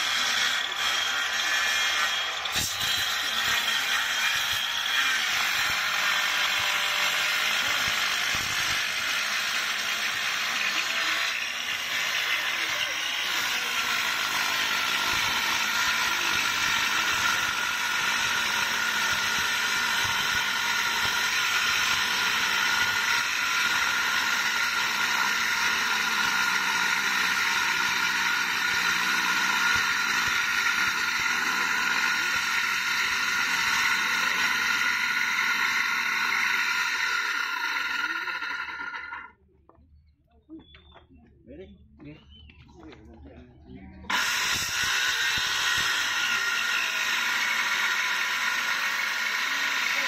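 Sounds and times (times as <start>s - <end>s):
circular saw cutting wood: 0.0s - 39.4s, 44.0s - 50.0s.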